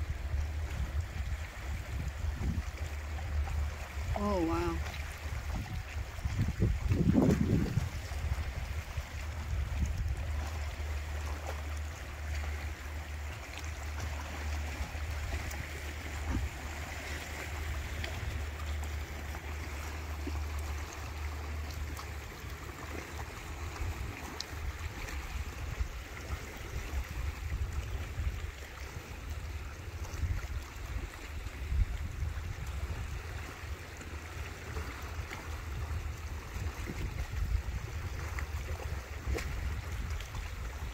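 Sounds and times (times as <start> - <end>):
small waves lapping against rocks: 0.0 - 40.9
wind rumble on microphone: 0.0 - 40.9.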